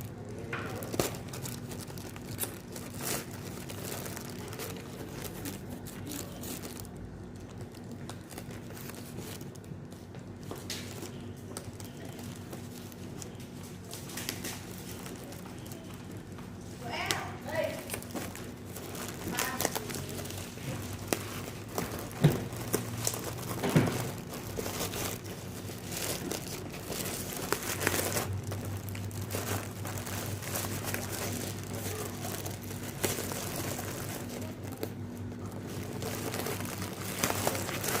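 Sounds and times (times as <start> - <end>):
plastic packaging crinkling: 0.0 - 38.0
steady low hum: 0.0 - 38.0.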